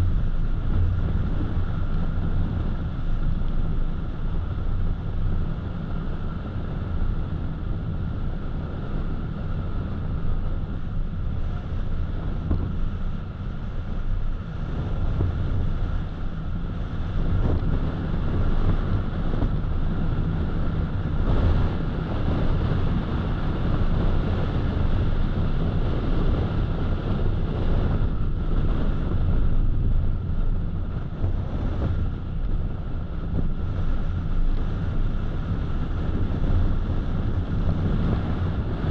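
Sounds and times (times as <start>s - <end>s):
car tyre and wind rumble: 0.0s - 38.9s.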